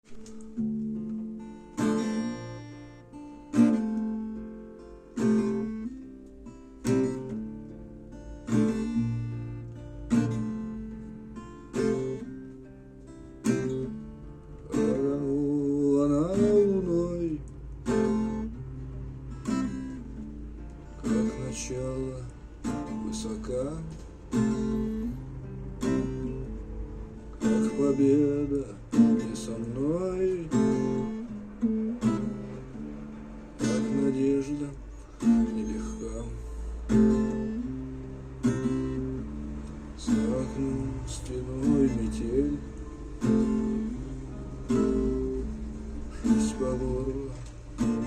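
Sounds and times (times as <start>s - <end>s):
acoustic guitar chords: 0.0s - 48.0s.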